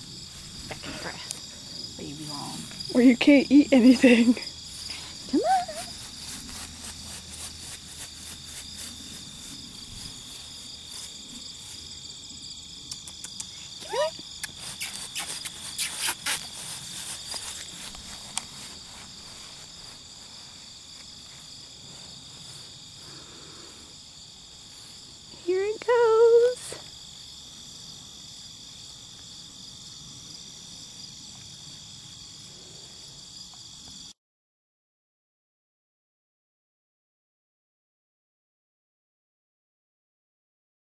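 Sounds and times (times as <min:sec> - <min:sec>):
high-pitched insect chorus: 0:00.0 - 0:34.2.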